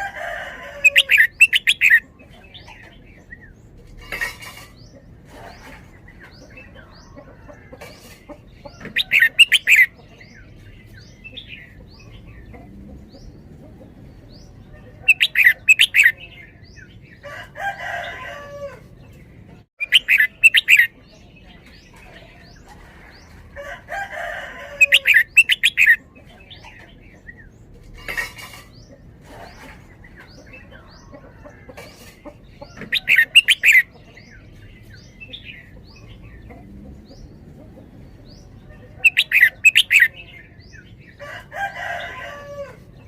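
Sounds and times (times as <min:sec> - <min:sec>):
caged bird singing: 0:00.0 - 0:43.0.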